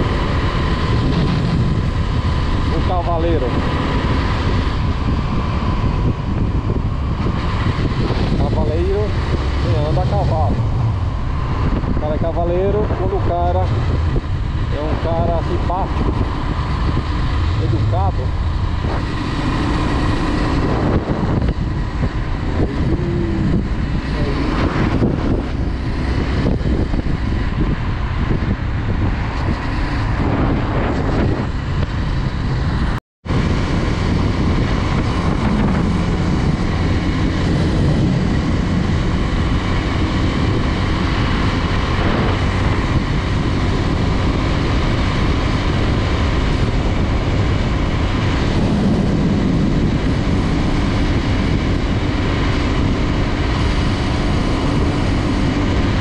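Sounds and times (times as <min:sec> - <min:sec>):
motorcycle engine running: 0:00.0 - 0:56.0
wind on microphone: 0:00.0 - 0:56.0.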